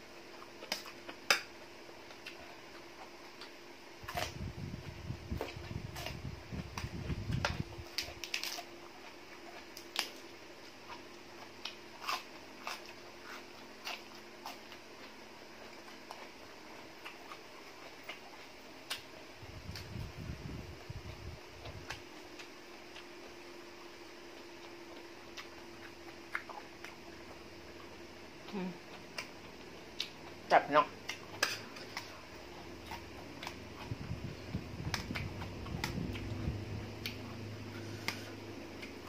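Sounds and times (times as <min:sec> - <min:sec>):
chewing and crunching lettuce: 0:00.3 - 0:39.0.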